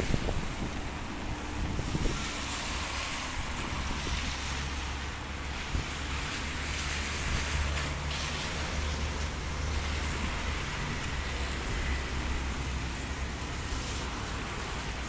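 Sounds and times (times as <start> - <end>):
light drizzle hissing: 0.0 - 15.0.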